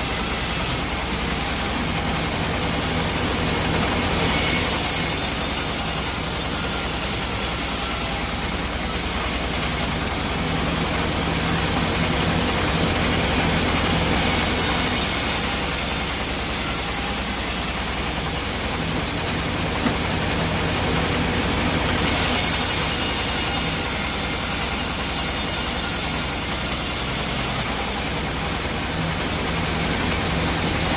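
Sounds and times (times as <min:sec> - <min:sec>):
sawmill machinery hum: 0:00.0 - 0:30.9.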